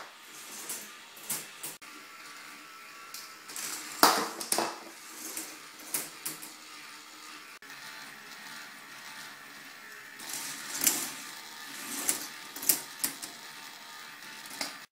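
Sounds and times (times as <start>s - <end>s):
toy motor whirring rattle: 0.0s - 14.9s.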